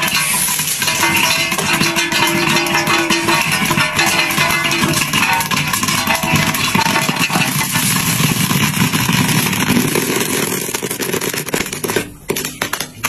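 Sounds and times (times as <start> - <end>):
popcorn popping in a wok: 0.0 - 13.0.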